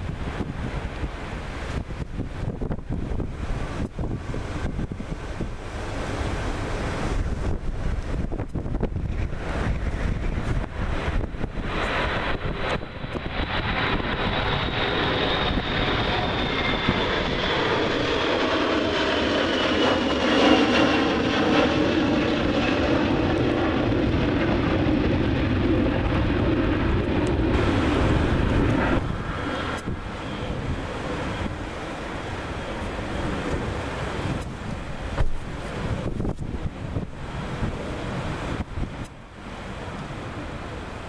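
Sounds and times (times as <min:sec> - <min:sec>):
jet engines roaring: 0:00.0 - 0:41.0
wind noise on microphone: 0:00.0 - 0:41.0.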